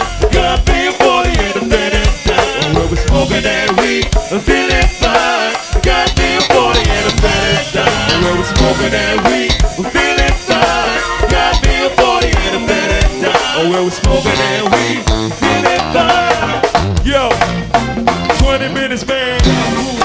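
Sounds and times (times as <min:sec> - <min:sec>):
drum kit and percussion groove: 0:00.0 - 0:20.0
live band music: 0:00.0 - 0:20.0.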